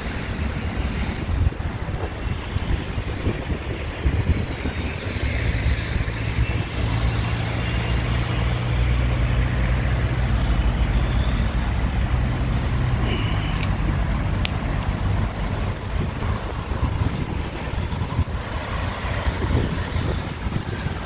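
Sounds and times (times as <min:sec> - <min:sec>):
road traffic: 0:00.0 - 0:21.0.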